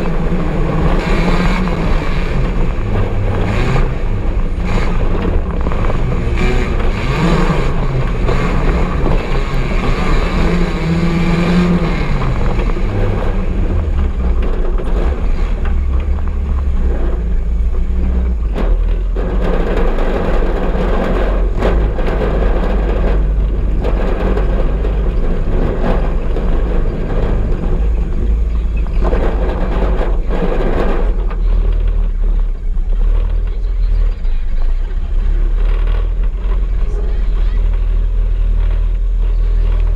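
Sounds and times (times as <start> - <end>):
buggy engine revving: 0.0 - 39.9
knocks and rattles: 0.0 - 39.9.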